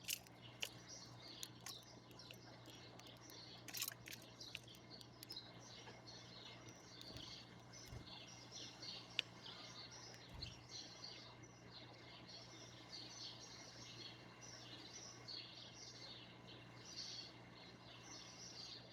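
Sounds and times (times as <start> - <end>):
faint low hum: 0.0 - 18.9
small birds chirping: 0.0 - 18.9.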